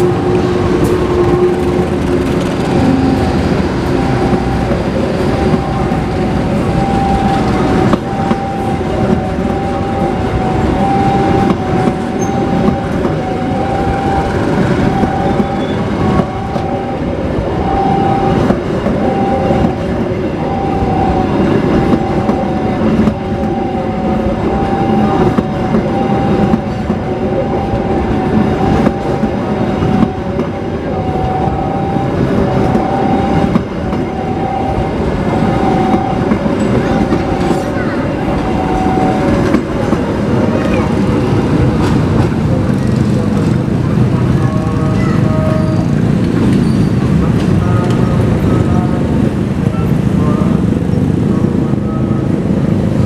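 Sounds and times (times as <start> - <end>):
constant whining tone: 0.0 - 53.0
train mechanical drone: 0.0 - 53.0.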